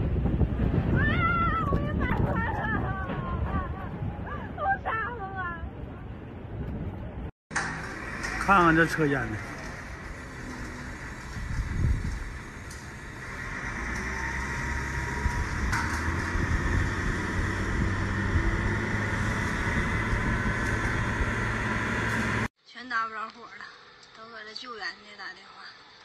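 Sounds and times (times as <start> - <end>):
road traffic rumble: 0.0 - 22.5.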